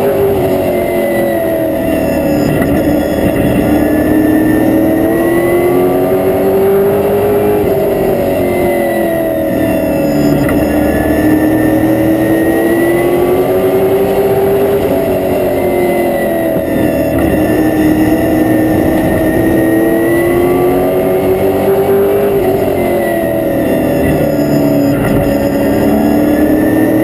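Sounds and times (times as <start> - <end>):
car engine running hard: 0.0 - 27.0.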